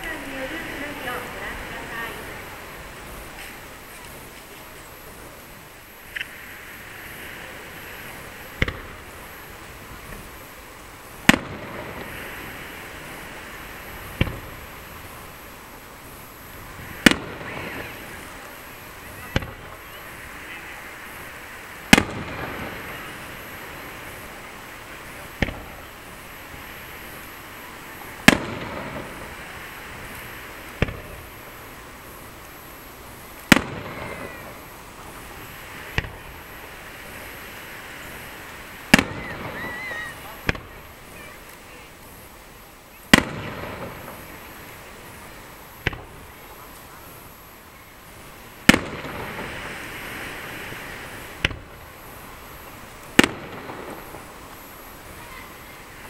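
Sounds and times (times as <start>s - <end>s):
firework shells bursting: 0.0s - 42.3s, 42.9s - 47.6s, 48.2s - 55.2s
steady hiss: 0.0s - 56.0s.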